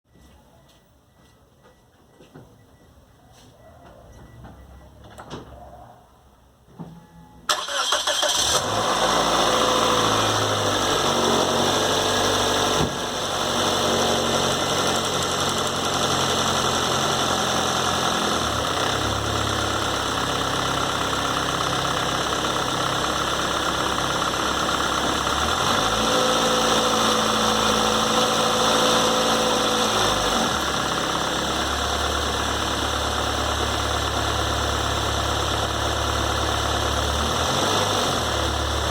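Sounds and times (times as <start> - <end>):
car engine cranking and idling: 7.5 - 38.9.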